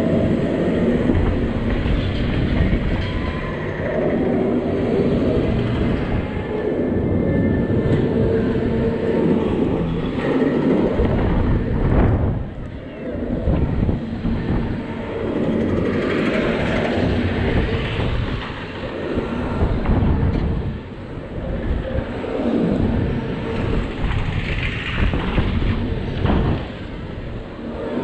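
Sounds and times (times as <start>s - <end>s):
ride low rumble: 0.0s - 28.0s
wind rushing over microphone: 0.0s - 28.0s.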